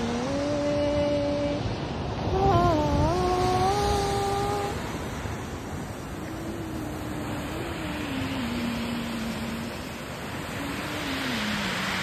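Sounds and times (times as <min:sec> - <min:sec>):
wind and surf: 0:00.0 - 0:12.0.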